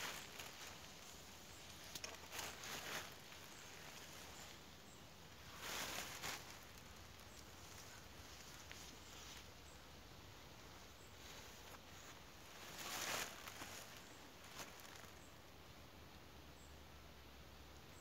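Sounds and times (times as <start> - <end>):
faint rustling and shuffling: 0.0 - 15.5.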